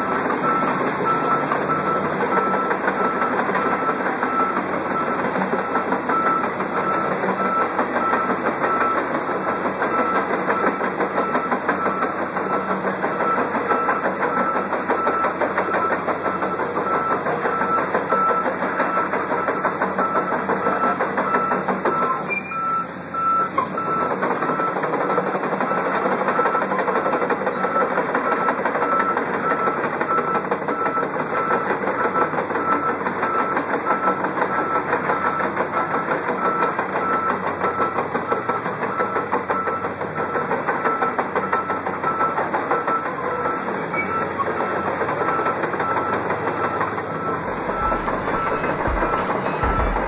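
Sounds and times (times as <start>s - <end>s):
diesel engine: 0.0s - 50.0s
travel alarm beeping: 0.0s - 50.0s.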